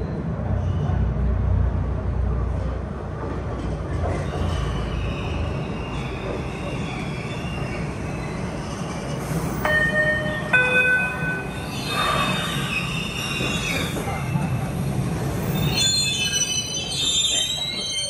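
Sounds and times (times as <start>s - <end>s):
subway train rumble: 0.0s - 18.0s
wheels whining on rail: 0.0s - 18.0s.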